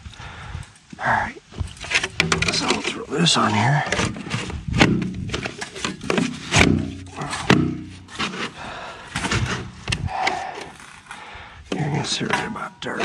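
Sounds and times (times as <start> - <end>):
plastic creaking: 1.6 - 13.0.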